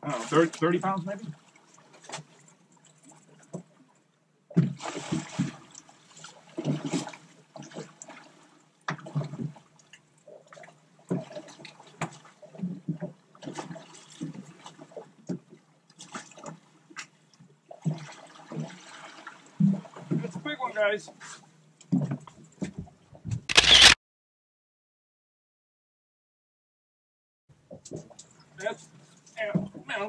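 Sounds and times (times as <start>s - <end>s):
water splashing beside boat hull: 0.0s - 23.2s, 27.6s - 30.0s.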